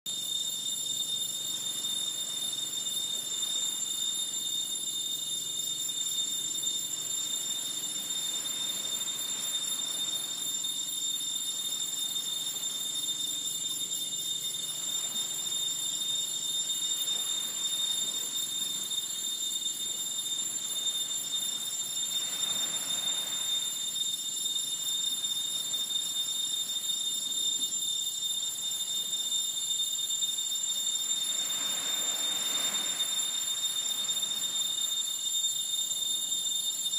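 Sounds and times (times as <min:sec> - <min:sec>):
high-pitched insect chorus: 0:00.1 - 0:36.9.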